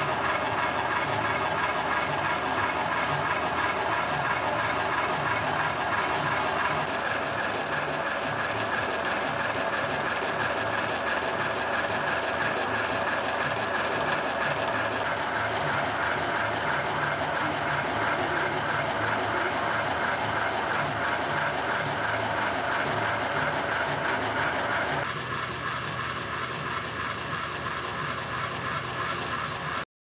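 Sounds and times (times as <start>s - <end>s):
constant high whine: 0.0s - 29.8s
milling machine drone: 0.0s - 29.8s.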